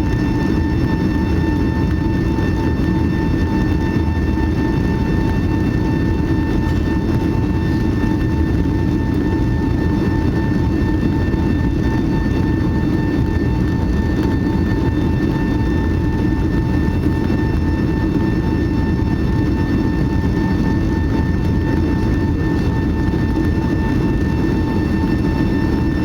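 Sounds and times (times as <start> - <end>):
jet engine cabin rumble: 0.0 - 26.0
steady whine: 0.0 - 26.0.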